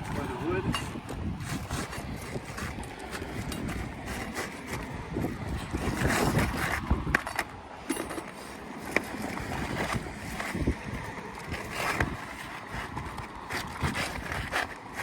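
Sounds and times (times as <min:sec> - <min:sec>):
shingle scraping and rustling: 0:00.0 - 0:15.0.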